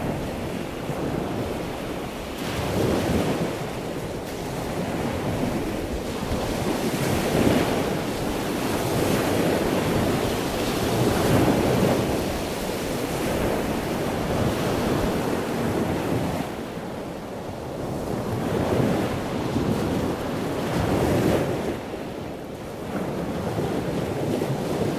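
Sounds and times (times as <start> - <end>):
ocean surf breaking on beach: 0.0 - 24.9
wind buffeting microphone: 0.0 - 24.9.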